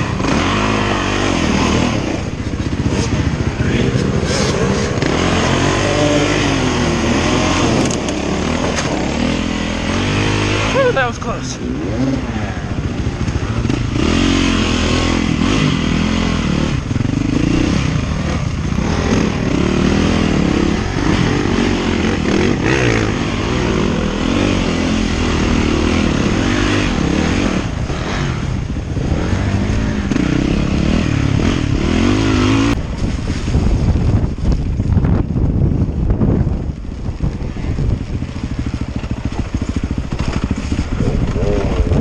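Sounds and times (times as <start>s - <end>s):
dirt bike engine revving: 0.0s - 32.9s, 37.4s - 42.0s.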